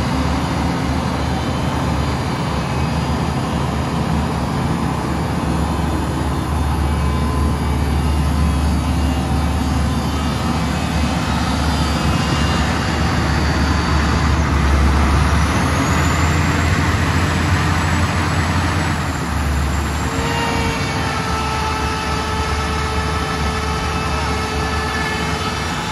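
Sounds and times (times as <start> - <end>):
air compressor engine humming: 0.0 - 25.9.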